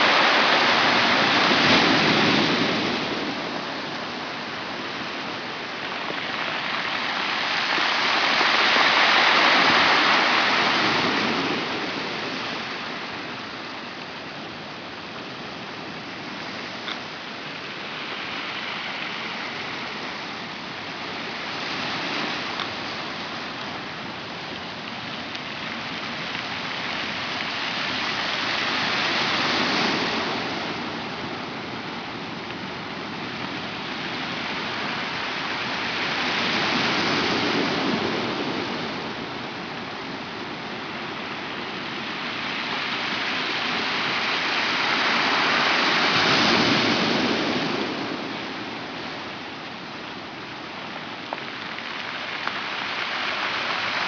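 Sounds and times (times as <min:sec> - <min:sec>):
rocks rolling in wave backwash: 0:00.0 - 0:54.0.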